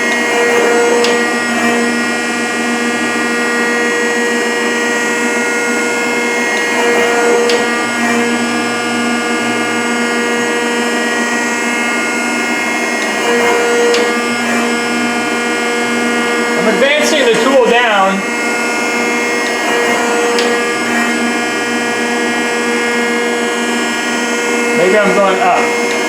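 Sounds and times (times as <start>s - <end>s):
planer machine whining: 0.0s - 26.0s.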